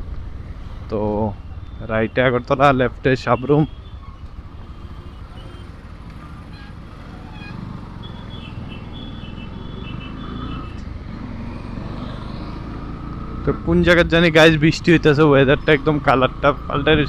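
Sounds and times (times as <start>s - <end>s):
motorcycle engine rumble: 0.0s - 17.0s.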